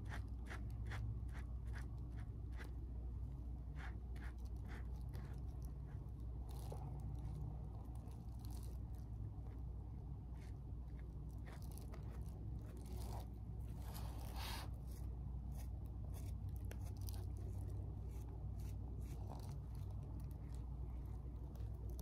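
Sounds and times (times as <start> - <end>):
brush scraping and dabbing paste: 0.0 - 22.0
steady low hum: 0.0 - 22.0.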